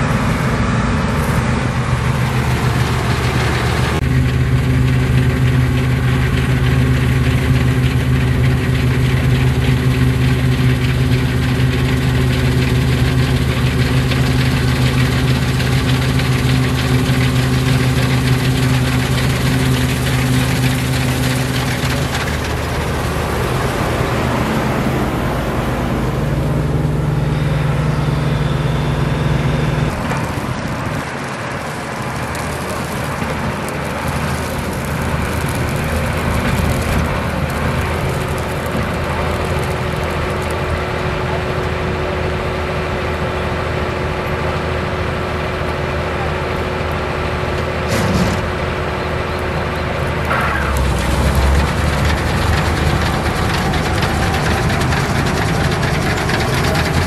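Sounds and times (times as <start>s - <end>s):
combine harvester engine and threshing: 0.0s - 57.0s.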